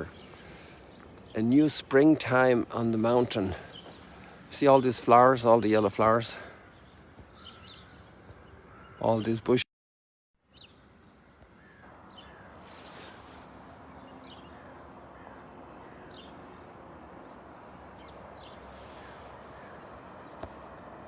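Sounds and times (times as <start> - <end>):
birds calling: 0.0 - 9.6, 10.6 - 20.8
steady outdoor hiss: 0.0 - 9.6, 10.5 - 21.0.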